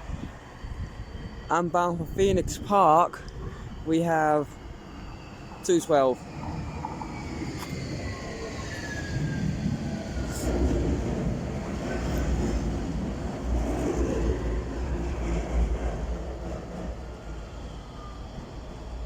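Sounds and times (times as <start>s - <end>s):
tram wheel rumble on rails: 0.0s - 19.0s.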